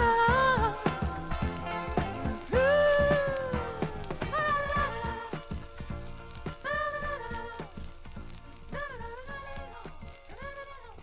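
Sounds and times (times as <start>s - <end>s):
pop-rock instrumental music: 0.0s - 11.0s.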